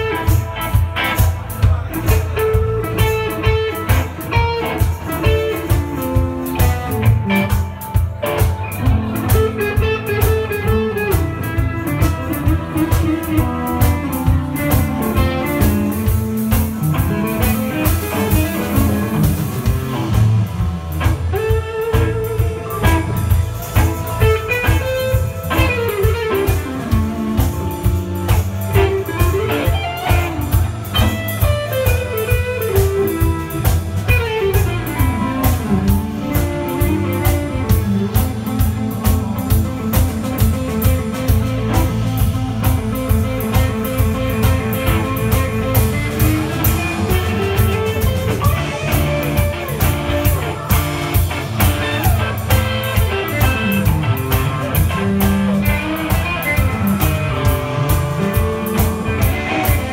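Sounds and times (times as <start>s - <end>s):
bass guitar: 0.0s - 59.9s
drum kit beat: 0.0s - 59.9s
electric guitars: 0.0s - 59.9s.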